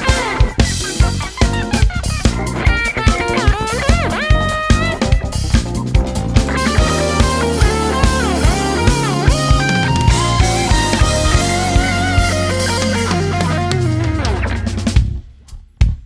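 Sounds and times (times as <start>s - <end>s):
electric guitar: 0.0s - 15.2s
keyboards: 0.0s - 15.3s
bass: 0.0s - 16.0s
drum kit: 0.0s - 16.0s.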